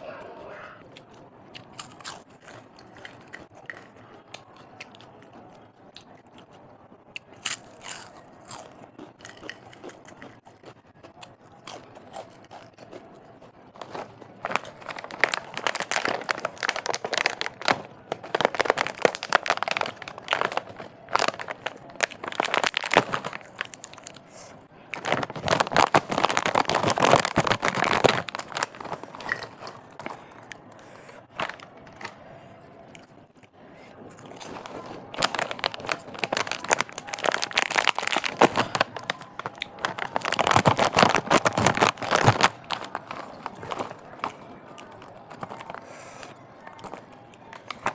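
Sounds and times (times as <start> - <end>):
crunchy snack being chewed: 0.9 - 31.7, 34.1 - 47.9.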